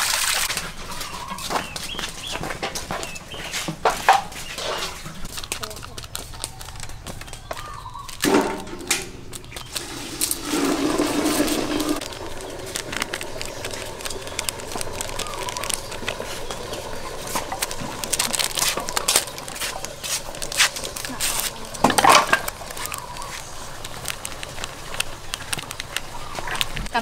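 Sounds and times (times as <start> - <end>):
birds calling: 0.4 - 27.0
plastic packet crinkling: 4.6 - 27.0.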